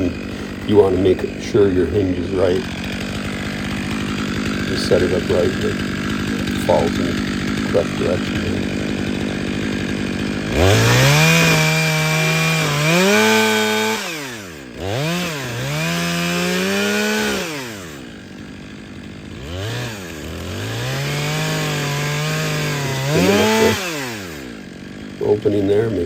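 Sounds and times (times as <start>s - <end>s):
chainsaw revving and cutting: 0.0s - 26.0s.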